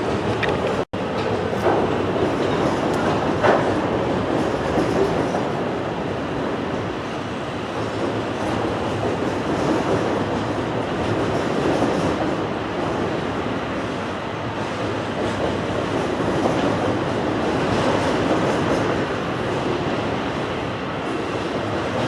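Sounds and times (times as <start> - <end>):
train cars rumbling on rails: 0.0 - 22.0.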